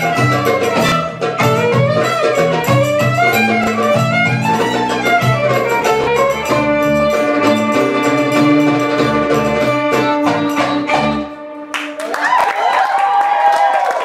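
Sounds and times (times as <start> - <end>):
hand drum beat: 0.0 - 11.4
plucked strings: 0.0 - 12.0
violin melody: 0.0 - 12.1.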